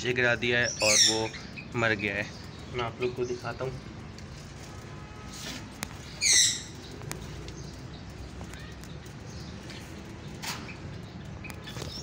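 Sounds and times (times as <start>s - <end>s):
high bird chirp: 0.0s - 4.5s, 5.8s - 12.0s.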